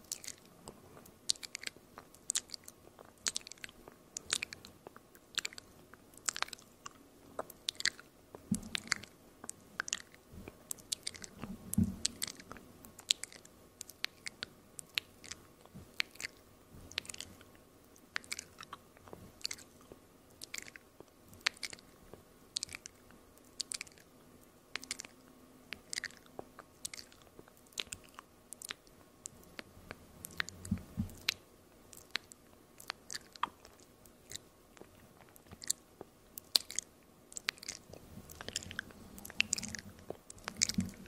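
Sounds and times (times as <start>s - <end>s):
lip and tongue clicks: 0.0s - 41.0s.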